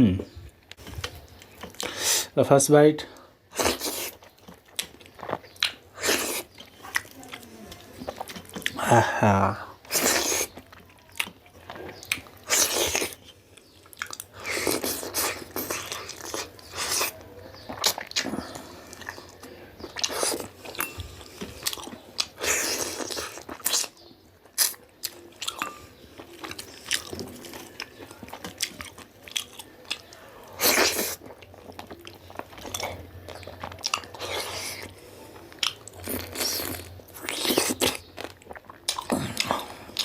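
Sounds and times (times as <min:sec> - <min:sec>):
person chewing with crunches: 0:00.7 - 0:02.3, 0:03.5 - 0:40.0.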